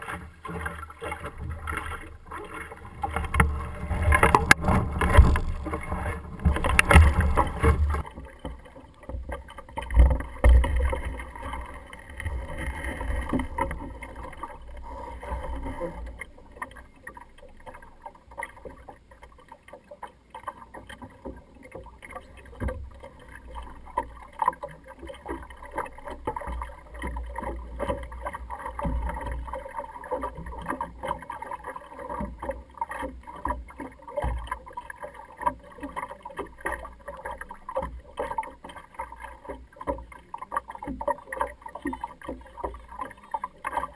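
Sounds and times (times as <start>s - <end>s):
water splashing against hull: 0.0s - 43.9s.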